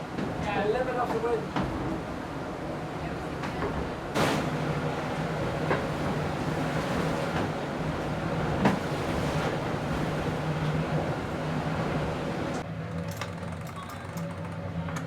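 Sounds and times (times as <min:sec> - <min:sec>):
rushing water: 0:00.0 - 0:12.6
wind: 0:00.0 - 0:15.0.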